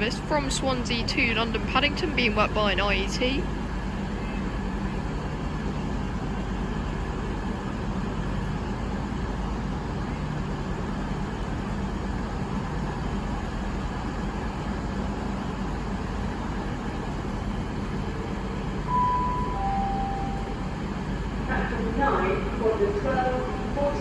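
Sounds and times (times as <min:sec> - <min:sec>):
train engines humming: 0:00.0 - 0:24.0.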